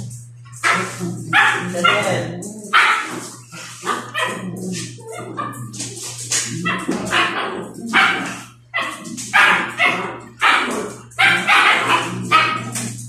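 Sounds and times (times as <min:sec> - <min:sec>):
dogs barking and yipping: 0:00.0 - 0:13.0
steady low hum: 0:00.0 - 0:13.0.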